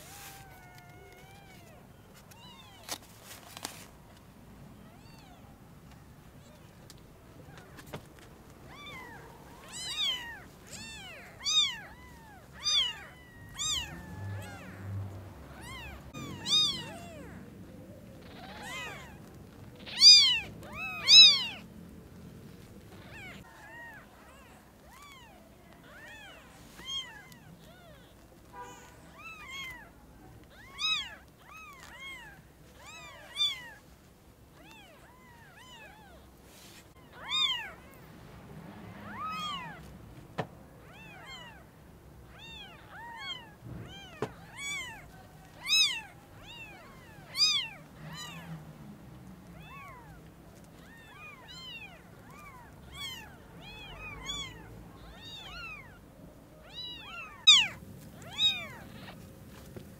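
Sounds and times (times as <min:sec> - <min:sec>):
kittens mewing: 0:00.0 - 0:03.0, 0:04.6 - 0:38.3, 0:38.9 - 0:59.9.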